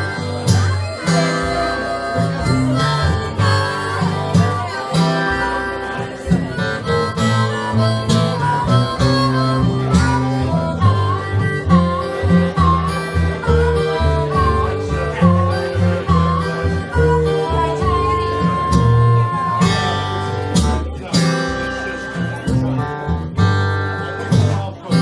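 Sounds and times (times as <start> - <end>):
acoustic guitar rhythm: 0.0 - 25.0
harmonica bending notes: 0.0 - 25.0.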